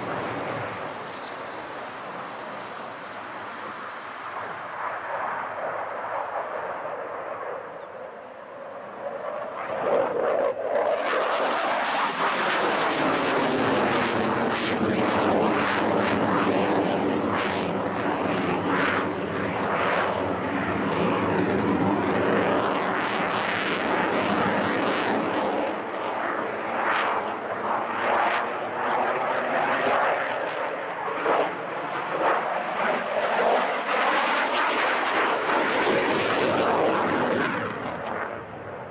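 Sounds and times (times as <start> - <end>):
droning hum of steady tones: 0.0 - 10.6, 12.2 - 30.4, 31.1 - 38.9
jet engine roaring: 0.0 - 38.9.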